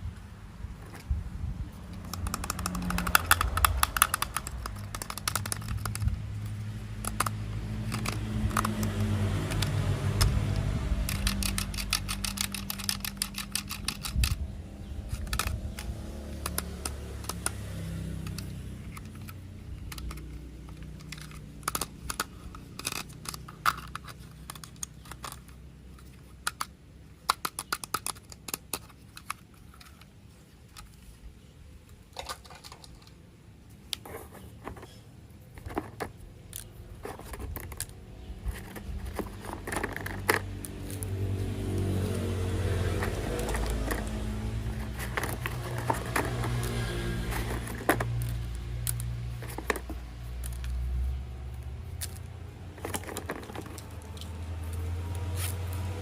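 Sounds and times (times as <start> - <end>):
plastic toy parts clicking: 1.9 - 31.0, 32.1 - 33.2, 33.9 - 41.9, 42.6 - 54.8.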